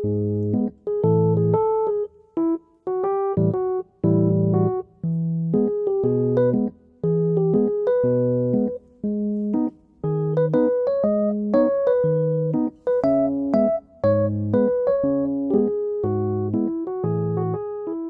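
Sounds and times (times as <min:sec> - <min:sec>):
electric piano tune with bass: 0:00.0 - 0:18.0.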